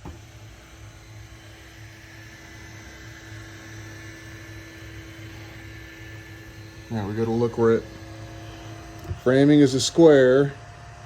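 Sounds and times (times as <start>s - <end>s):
electrical hum: 0.0s - 11.0s
faint steady whine: 0.0s - 11.0s.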